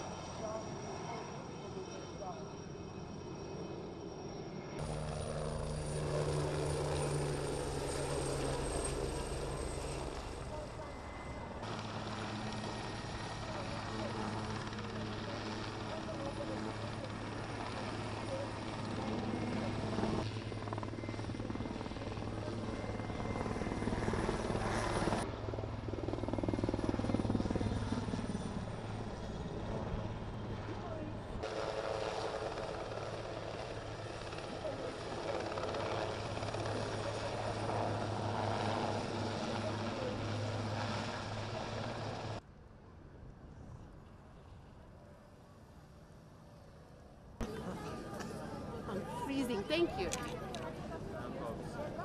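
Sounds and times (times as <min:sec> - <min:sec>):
helicopters flying past: 0:00.0 - 0:42.4, 0:46.9 - 0:52.0.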